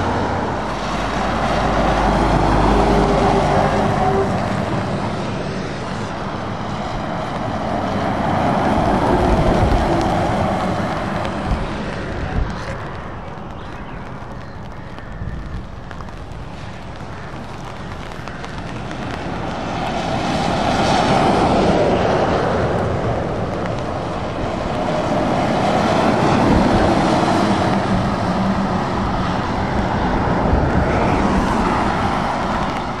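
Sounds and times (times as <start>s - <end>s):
lorry diesel engines passing: 0.0s - 14.0s, 19.9s - 33.0s.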